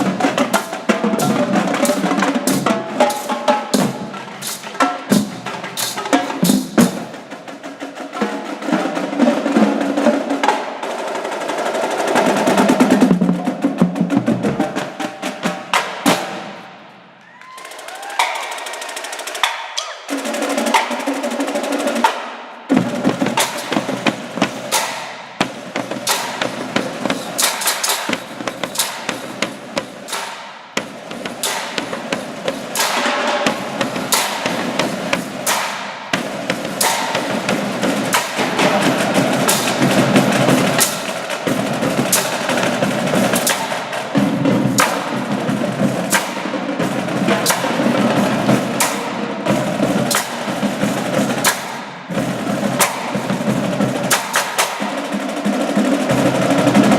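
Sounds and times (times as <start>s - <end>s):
drums rapid strikes: 0.0s - 56.9s
musical backing: 0.0s - 56.9s.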